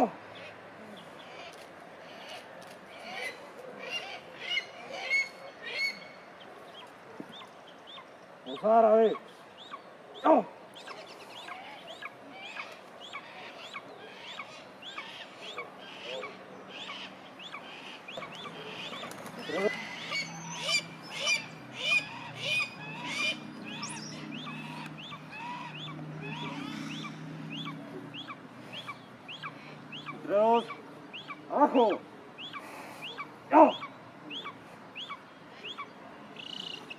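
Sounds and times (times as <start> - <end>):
bird chirping: 0.3 - 36.9.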